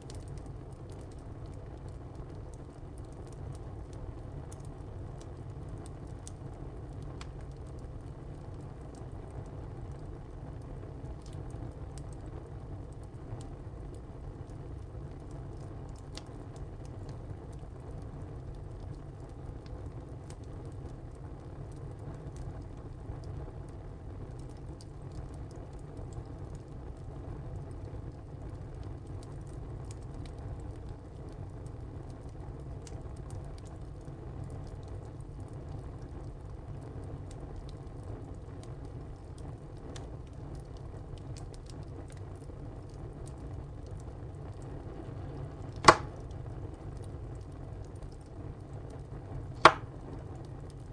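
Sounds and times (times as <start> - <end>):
burning wood crackling: 0.0 - 50.9
fire flames rumbling: 0.0 - 50.9.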